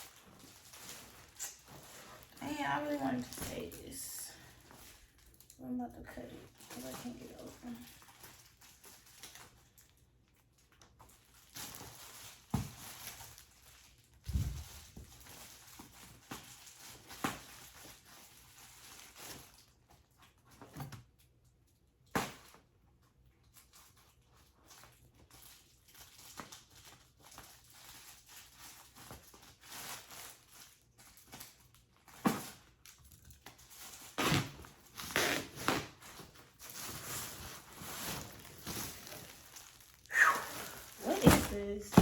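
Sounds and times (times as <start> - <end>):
plastic bag crinkling and tearing: 0.0 - 21.3, 22.0 - 42.0.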